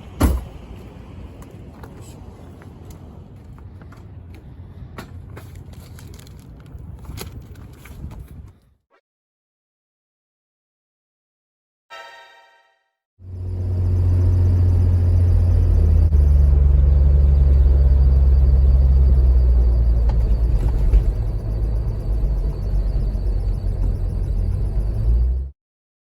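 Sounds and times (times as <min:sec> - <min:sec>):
engine and road rumble: 0:00.0 - 0:08.6, 0:13.2 - 0:25.6.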